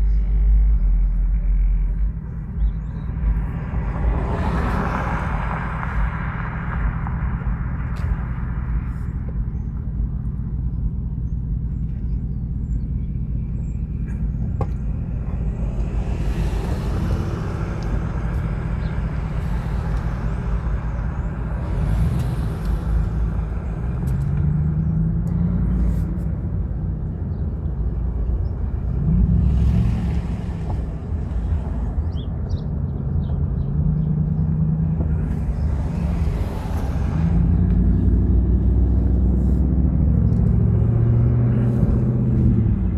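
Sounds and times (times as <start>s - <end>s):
car engine: 0.0s - 42.9s
road rumble: 0.0s - 42.9s.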